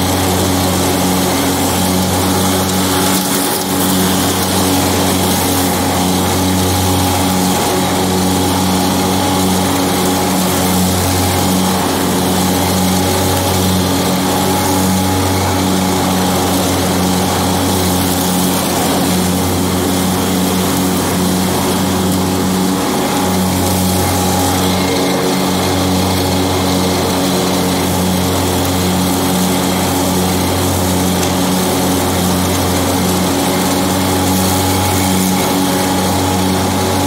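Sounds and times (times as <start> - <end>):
garden tractor engine running: 0.0 - 37.0
mower blades cutting grass: 0.0 - 37.0.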